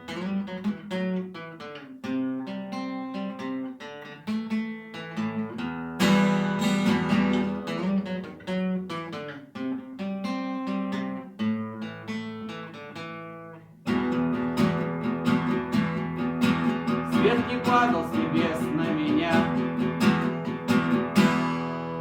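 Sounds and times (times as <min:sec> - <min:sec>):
acoustic guitar picking and strumming: 0:00.0 - 0:22.0.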